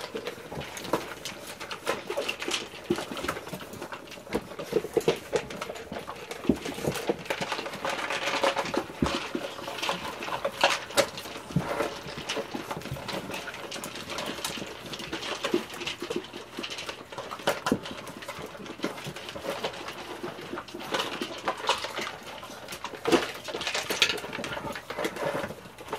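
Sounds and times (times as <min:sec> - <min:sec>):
puppies eating from plastic bowls: 0:00.0 - 0:25.9.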